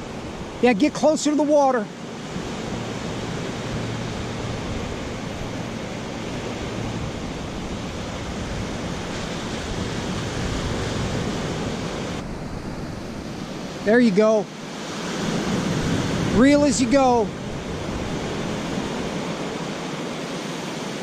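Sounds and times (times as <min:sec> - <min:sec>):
ocean surf breaking: 0:00.0 - 0:21.0
wind: 0:00.0 - 0:21.0.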